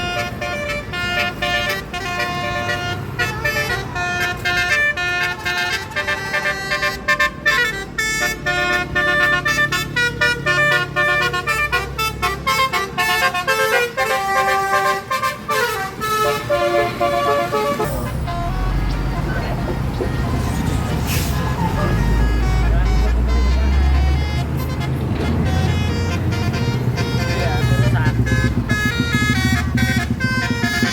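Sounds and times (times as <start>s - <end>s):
bus engine running low: 0.0s - 30.9s
multi-tone air horns: 0.0s - 30.9s.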